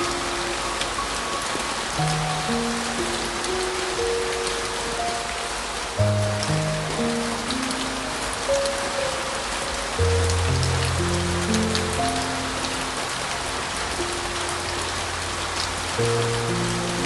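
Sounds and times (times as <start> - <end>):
heavy rain: 0.0 - 17.0
soft slow piano music: 0.0 - 17.0.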